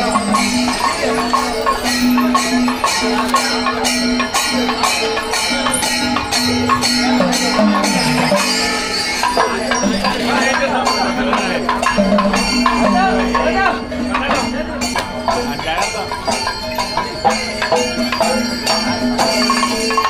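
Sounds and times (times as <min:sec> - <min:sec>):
cymbals clashing: 0:00.0 - 0:20.0
drumming: 0:00.0 - 0:20.0
held melody notes: 0:00.0 - 0:20.0.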